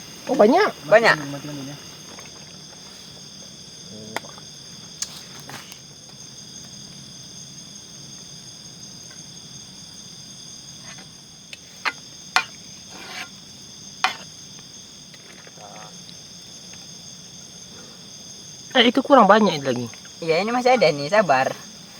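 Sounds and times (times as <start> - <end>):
crickets trilling: 0.0 - 21.9.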